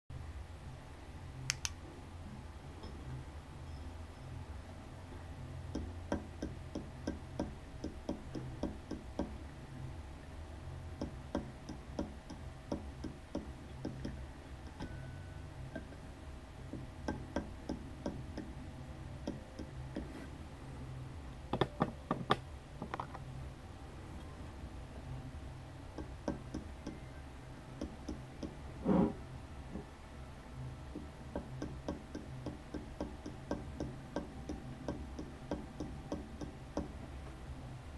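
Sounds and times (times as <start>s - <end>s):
low hum: 0.1s - 37.9s.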